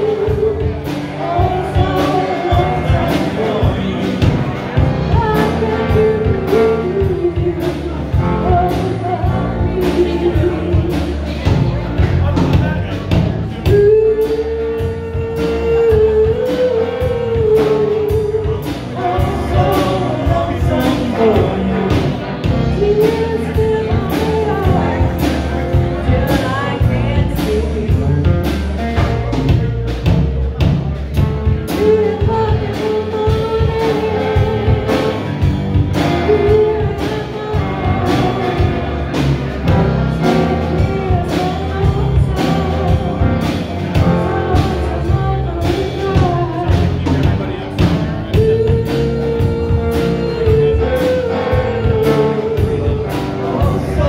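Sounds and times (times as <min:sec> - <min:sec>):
live rock band playing: 0:00.0 - 0:54.0
woman singing lead: 0:00.0 - 0:54.0.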